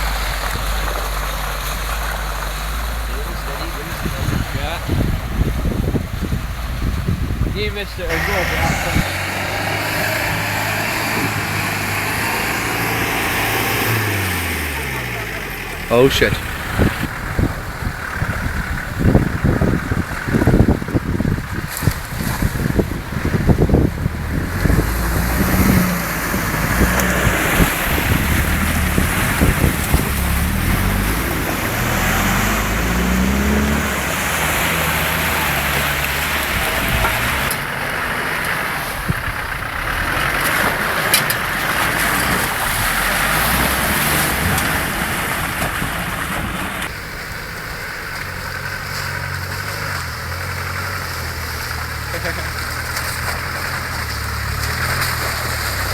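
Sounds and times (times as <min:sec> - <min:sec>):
off-road vehicle engine revving: 0:00.0 - 0:55.9.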